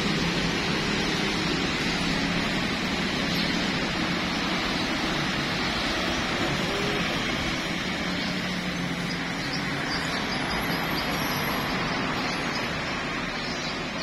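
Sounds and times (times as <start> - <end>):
motorbikes and cars passing: 0.0 - 14.0.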